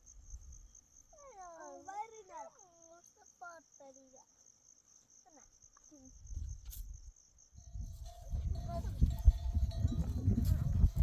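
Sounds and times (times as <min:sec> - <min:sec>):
faint short insect calls: 0:00.0 - 0:10.9
crickets trilling: 0:00.0 - 0:11.0.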